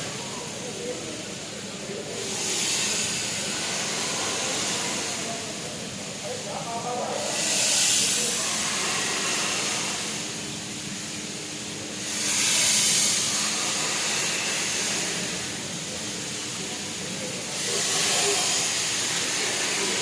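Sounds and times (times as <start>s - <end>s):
steam locomotive hissing steam: 0.0s - 20.0s.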